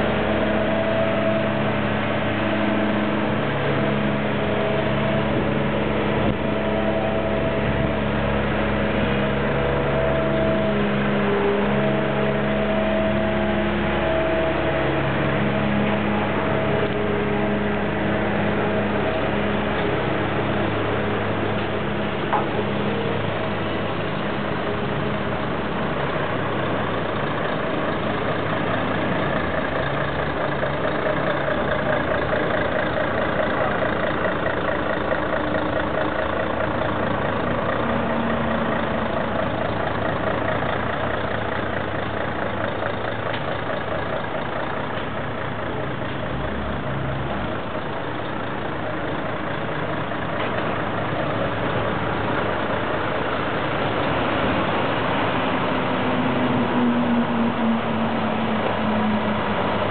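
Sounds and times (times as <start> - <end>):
heavy vehicle engine running: 0.0 - 59.9.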